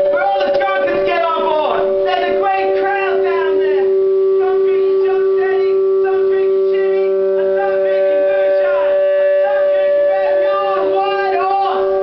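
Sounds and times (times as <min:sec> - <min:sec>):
loud droning note: 0:00.0 - 0:12.0
wavering melody line: 0:00.0 - 0:12.0.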